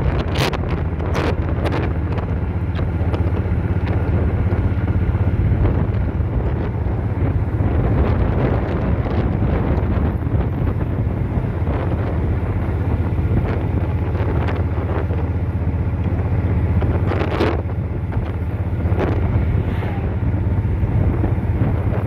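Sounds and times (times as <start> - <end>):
motorcycle engine drone: 0.0 - 22.0
wind buffeting microphone: 0.0 - 22.0.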